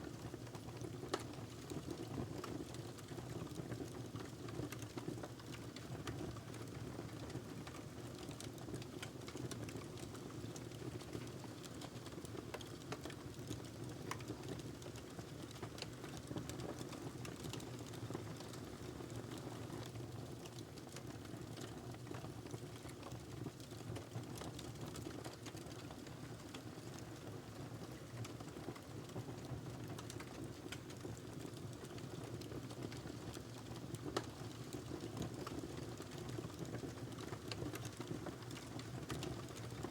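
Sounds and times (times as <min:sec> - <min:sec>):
wood fire crackling: 0:07.6 - 0:39.9.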